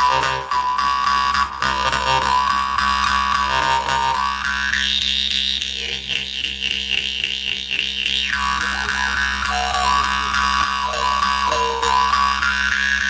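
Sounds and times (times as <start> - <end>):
jaw harp drone and melody: 0.0 - 13.0.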